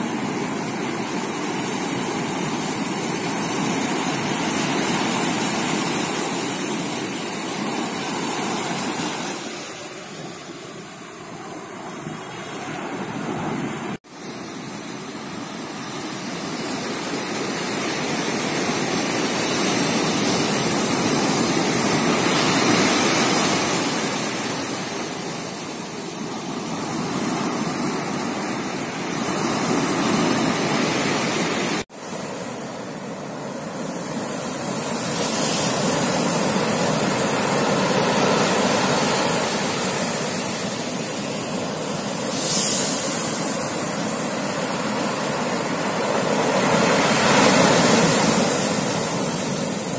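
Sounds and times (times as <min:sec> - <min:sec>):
sea waves breaking on beach: 0:00.0 - 0:49.9.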